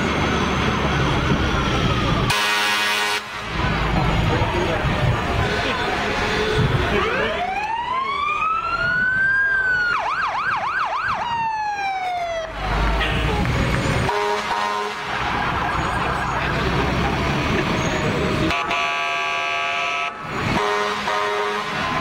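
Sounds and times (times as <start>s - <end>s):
fire truck engines rumbling: 0.0s - 22.0s
fire truck siren wailing: 0.0s - 22.0s.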